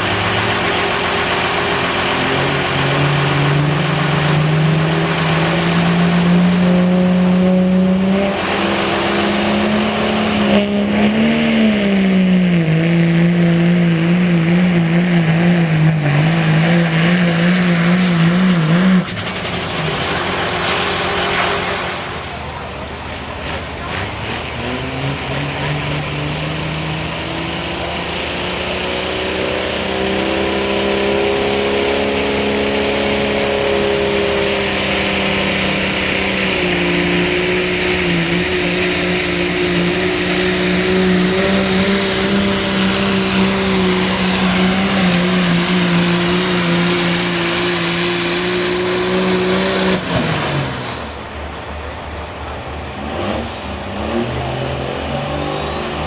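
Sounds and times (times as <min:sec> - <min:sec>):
diesel truck engine revving under load: 0:00.0 - 0:56.0.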